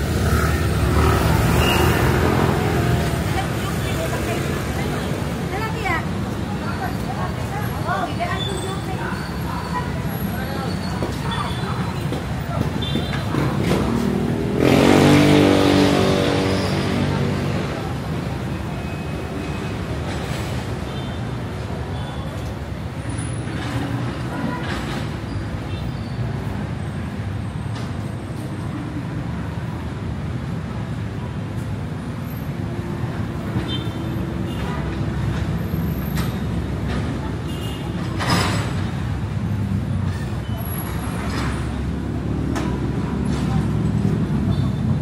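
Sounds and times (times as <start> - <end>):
street traffic noise: 0.0 - 45.0.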